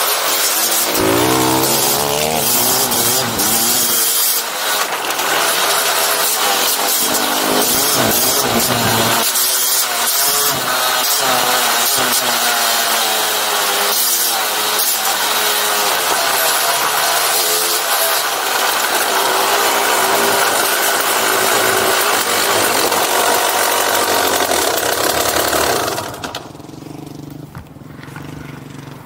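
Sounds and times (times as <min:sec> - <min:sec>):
dirt bike engine revving: 0:00.4 - 0:29.0.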